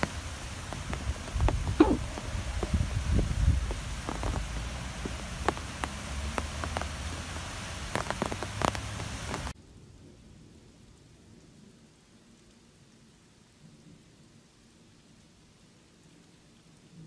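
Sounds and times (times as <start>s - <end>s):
faint hiss: 0.0s - 17.0s
heavy rain falling: 0.0s - 17.0s.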